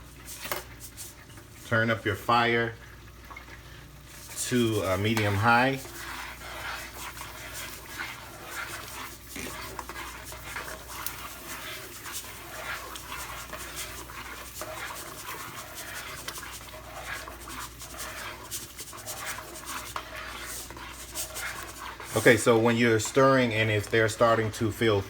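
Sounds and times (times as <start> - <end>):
oil crackling in deep fryer: 0.0 - 25.0
stirring scraping in pot: 0.0 - 25.0.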